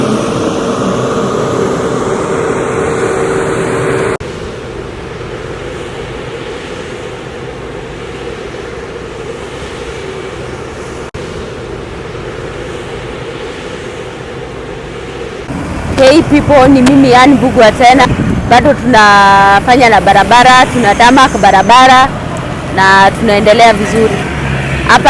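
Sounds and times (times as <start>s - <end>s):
construction machinery engine noise: 0.0s - 25.0s
steady hum: 0.0s - 25.0s.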